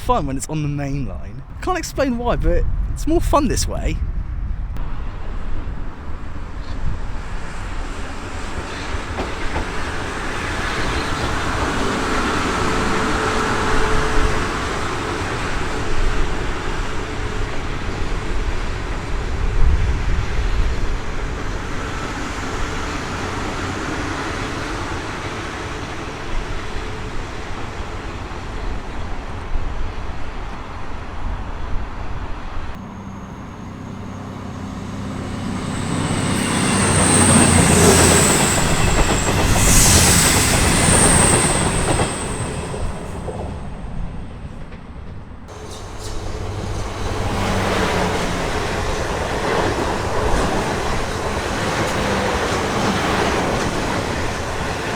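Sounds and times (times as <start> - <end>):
train rumble and wheel noise: 3.8 - 54.9.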